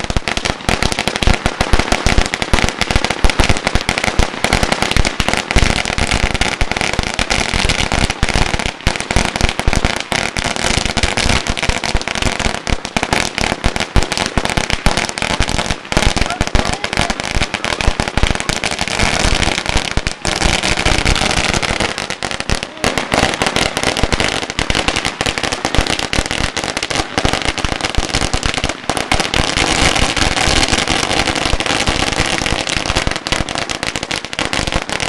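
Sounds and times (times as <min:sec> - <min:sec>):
firecrackers cracking rapidly: 0:00.0 - 0:35.0.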